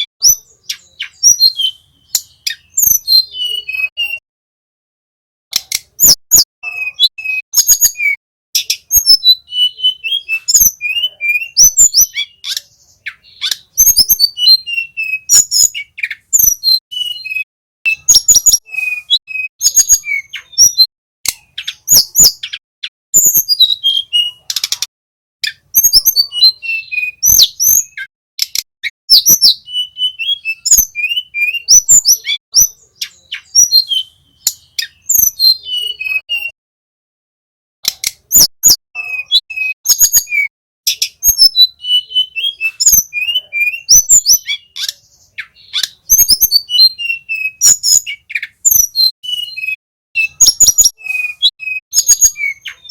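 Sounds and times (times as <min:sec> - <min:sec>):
flycatcher singing: 0:05.8 - 0:22.6, 0:25.4 - 0:36.6, 0:38.2 - 0:52.9.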